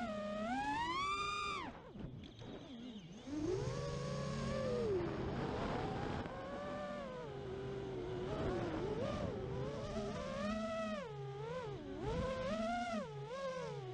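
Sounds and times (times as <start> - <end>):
quadcopter motors whining: 0.0 - 13.9.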